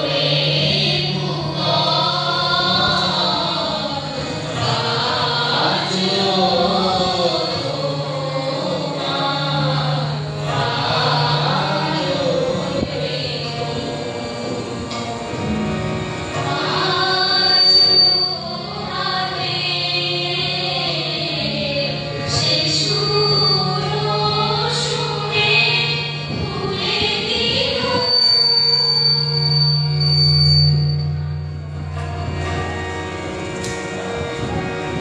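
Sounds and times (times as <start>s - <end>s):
voices singing together: 0.0s - 30.7s
harmonium low note: 0.0s - 35.0s
tabla: 0.0s - 35.0s.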